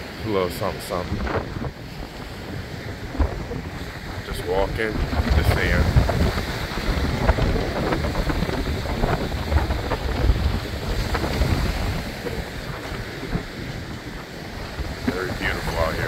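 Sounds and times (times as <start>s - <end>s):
faint sea on shore: 0.0s - 16.0s
wind gusting on microphone: 0.0s - 16.0s.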